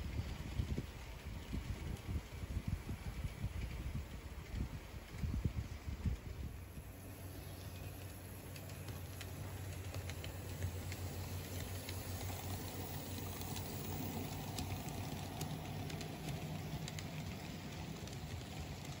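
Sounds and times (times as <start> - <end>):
model train motor hum: 0.0 - 19.0
wheels clicking on rails: 0.0 - 19.0.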